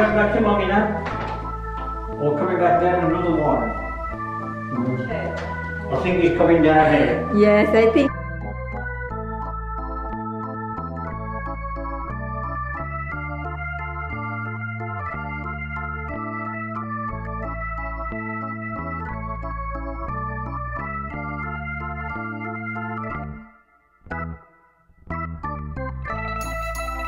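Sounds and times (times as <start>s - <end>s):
background music chords and bass: 0.0s - 27.0s.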